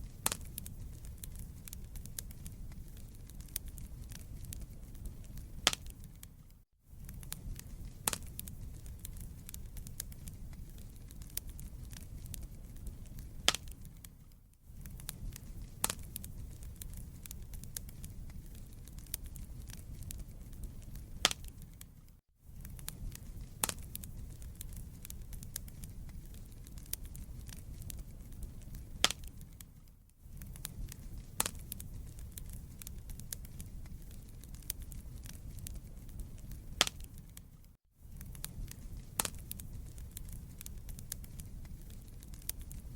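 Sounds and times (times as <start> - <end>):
fire crackling and popping: 0.0 - 42.9
fire rumbling in a fireplace: 0.0 - 42.9.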